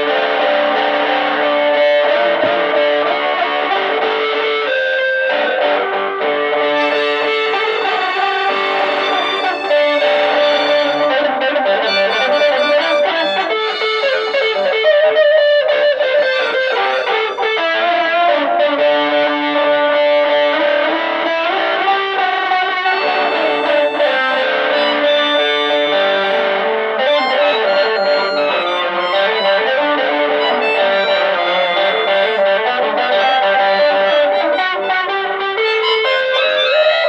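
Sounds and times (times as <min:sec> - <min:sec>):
electric guitar with effects: 0:00.0 - 0:37.0.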